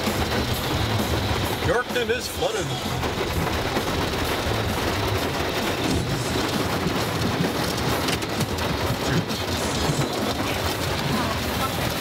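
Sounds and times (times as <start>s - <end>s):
car road noise: 0.0s - 12.0s
heavy rain on car roof: 0.0s - 12.0s.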